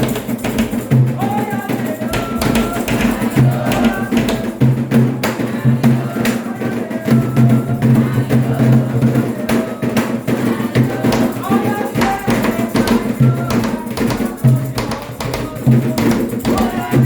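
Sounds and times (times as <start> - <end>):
clicking percussion: 0.0 - 17.0
hand drums beating: 0.0 - 17.0
voices singing: 0.0 - 17.0.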